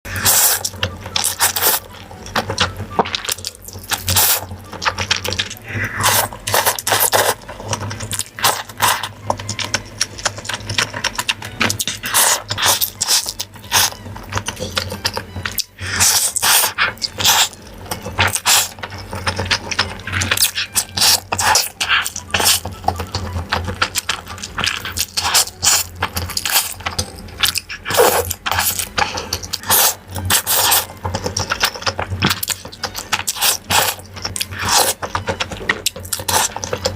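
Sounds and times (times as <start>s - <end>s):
person chewing food: 0.1s - 36.9s.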